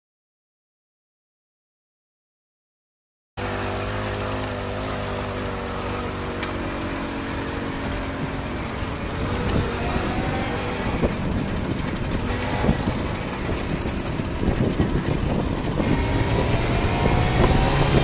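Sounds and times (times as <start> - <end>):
moped engine revving: 3.4 - 18.0.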